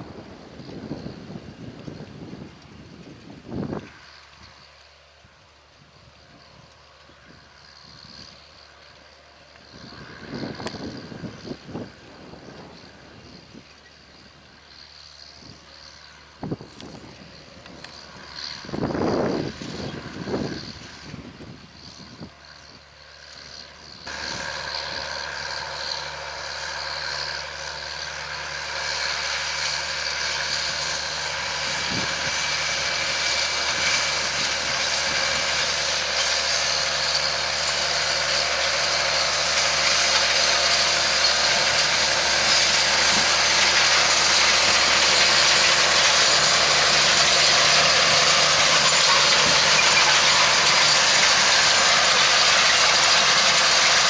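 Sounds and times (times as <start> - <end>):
tractor diesel engine working: 0.0 - 54.0.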